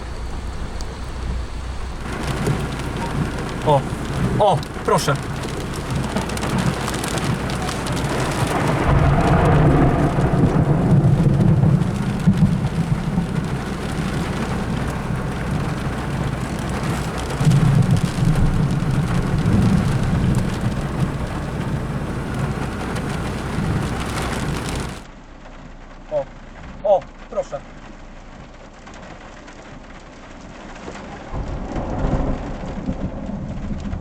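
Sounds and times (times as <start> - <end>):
rolling thunder: 0.0 - 25.0, 31.1 - 34.0
heavy rain: 0.0 - 34.0.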